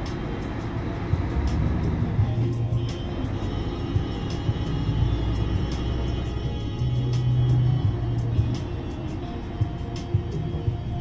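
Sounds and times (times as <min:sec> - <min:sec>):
deep bass notes: 0:00.0 - 0:11.0.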